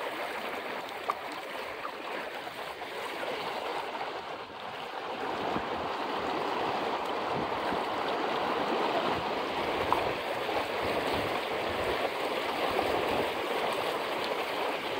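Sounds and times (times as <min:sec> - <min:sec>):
stream rushing over stones: 0:00.0 - 0:14.9.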